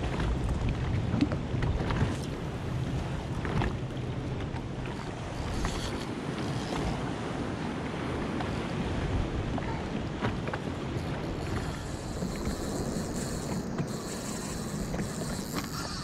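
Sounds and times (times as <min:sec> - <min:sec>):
choppy water washing: 0:00.0 - 0:16.0
wind buffeting microphone: 0:00.0 - 0:16.0.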